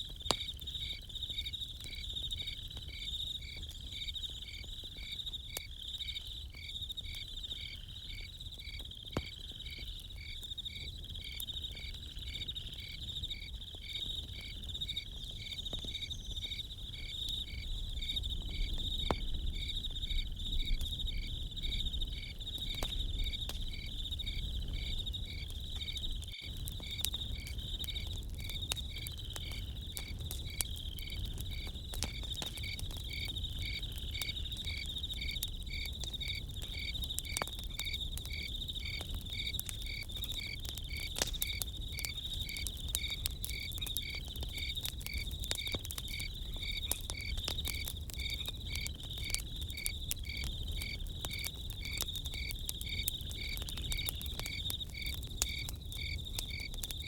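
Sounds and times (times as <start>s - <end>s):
campfire crackling and popping: 0.0s - 57.0s
crickets chirping: 0.0s - 57.0s
insect trill: 0.0s - 57.0s.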